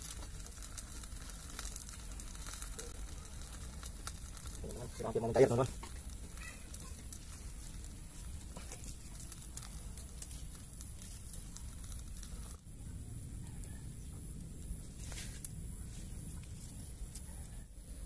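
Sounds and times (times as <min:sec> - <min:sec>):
faint wood fire crackling: 0:00.0 - 0:18.0.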